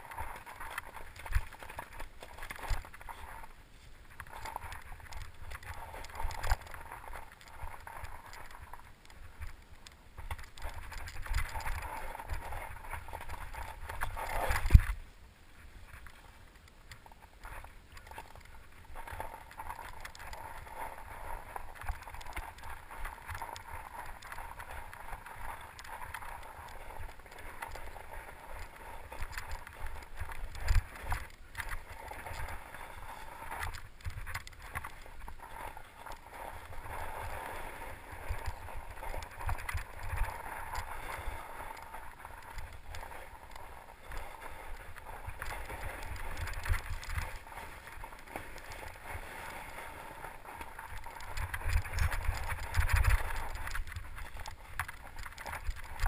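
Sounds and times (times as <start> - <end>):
bike tyres crunching through snow: 0.0 - 56.0.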